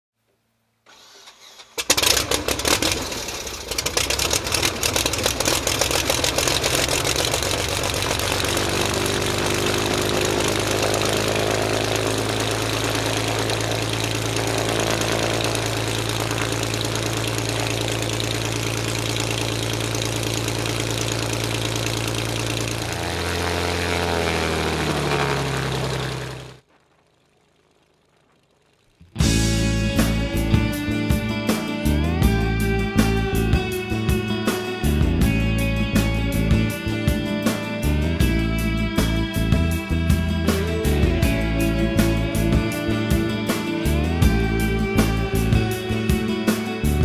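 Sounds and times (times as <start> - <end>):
aircraft engine starting and idling: 0.8 - 47.0.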